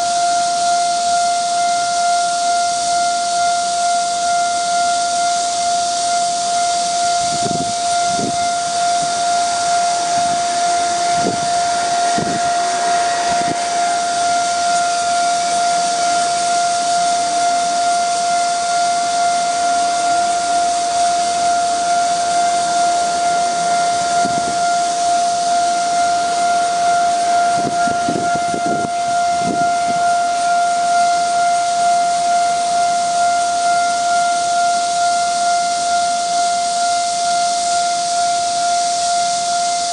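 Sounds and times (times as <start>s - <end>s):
level-crossing warning bell: 0.0s - 39.9s
steady hiss: 0.0s - 39.9s.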